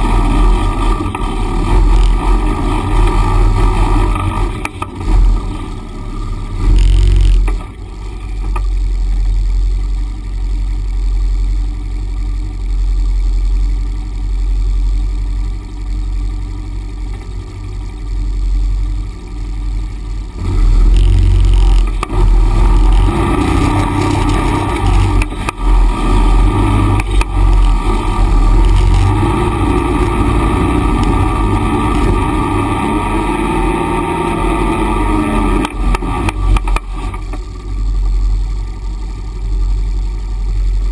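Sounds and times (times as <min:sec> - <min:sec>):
off-road vehicle engines rumbling: 0:00.0 - 0:40.9.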